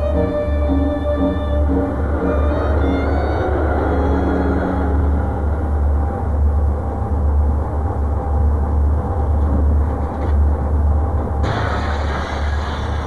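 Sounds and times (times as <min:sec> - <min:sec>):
eerie music held notes: 0:00.0 - 0:13.0
loud low rumble: 0:00.0 - 0:13.0
noisy hiss: 0:00.0 - 0:13.0.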